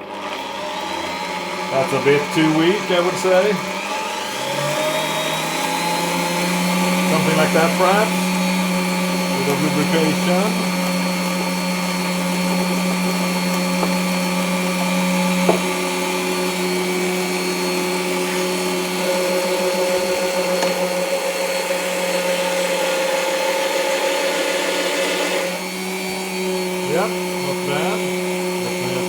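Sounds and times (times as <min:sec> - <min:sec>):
bench drill drilling into steel: 0:00.0 - 0:29.0.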